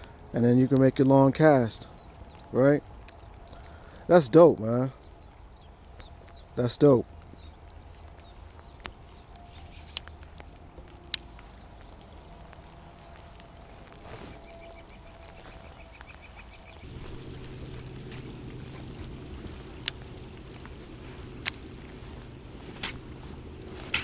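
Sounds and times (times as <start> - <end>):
faint lakeshore background: 0.0 - 24.0
low steady hum: 0.0 - 24.0.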